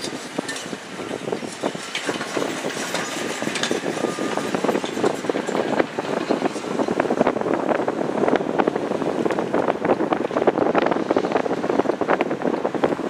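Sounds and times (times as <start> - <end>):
car road and tyre noise: 0.0 - 13.0.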